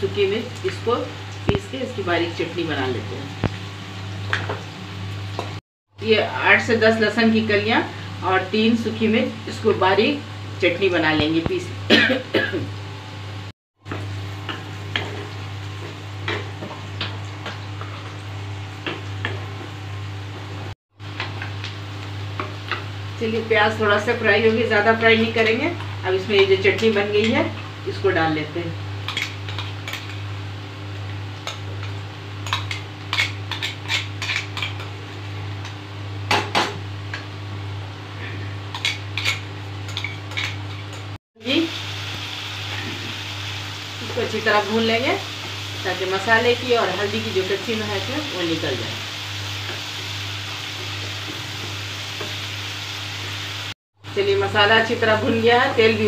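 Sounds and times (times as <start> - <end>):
onions sizzling in oil: 0.0 - 11.8, 12.6 - 56.0.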